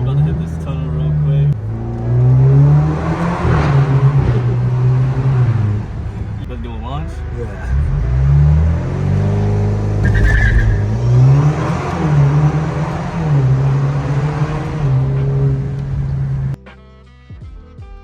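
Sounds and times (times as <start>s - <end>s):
car exhaust revving: 0.0s - 16.6s.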